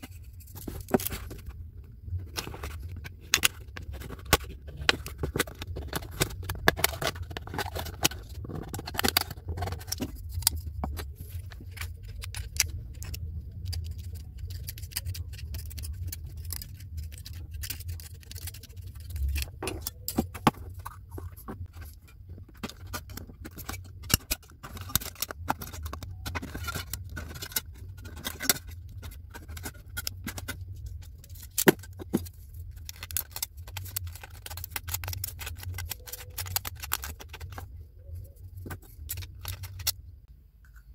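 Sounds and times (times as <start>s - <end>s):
can metal crinkling: 2.2s - 37.7s, 38.4s - 40.0s.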